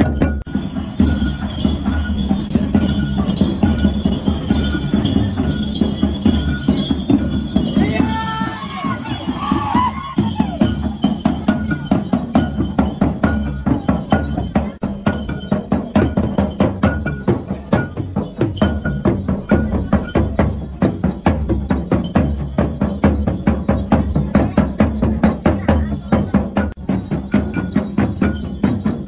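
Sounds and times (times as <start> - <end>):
hand drums fast beat: 0.0 - 29.0.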